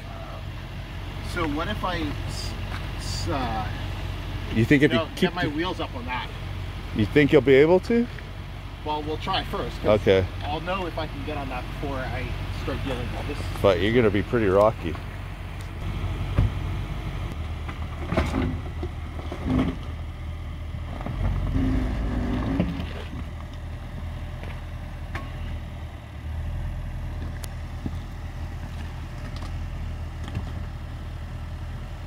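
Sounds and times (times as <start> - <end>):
car engine running low: 0.0 - 32.0.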